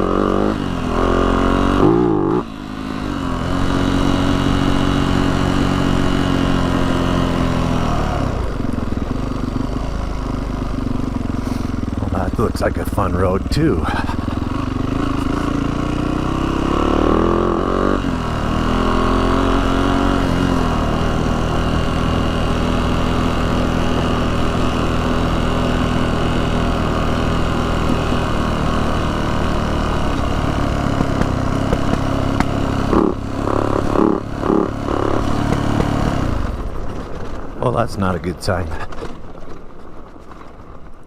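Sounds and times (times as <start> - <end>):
dirt bike engine running: 0.0 - 41.0.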